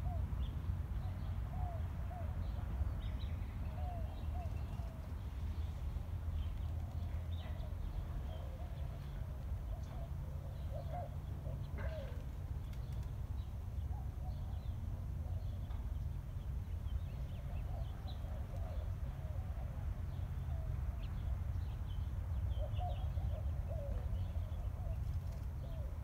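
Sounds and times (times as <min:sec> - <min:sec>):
birds calling and chirping: 0:00.0 - 0:26.0.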